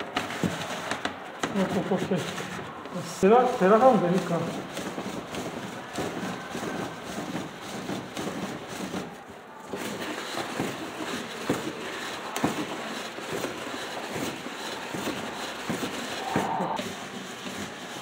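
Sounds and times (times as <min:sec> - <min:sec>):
crank mechanism rattling and scraping: 0:00.0 - 0:18.0.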